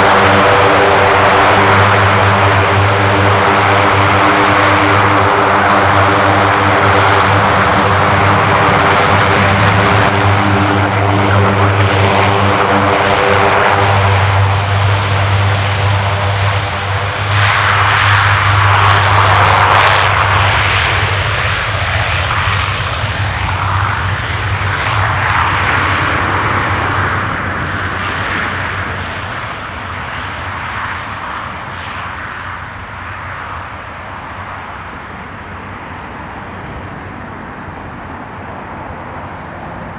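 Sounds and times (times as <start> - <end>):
propeller airplane passing: 0.0 - 39.9.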